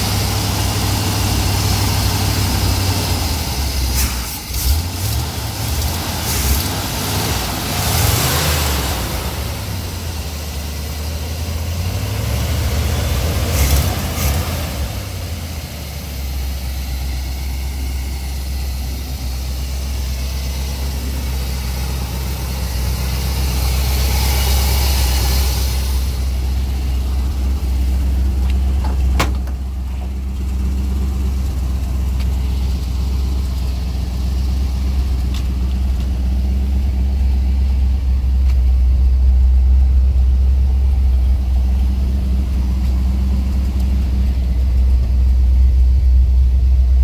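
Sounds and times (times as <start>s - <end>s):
pickup engine idling: 0.0s - 47.0s.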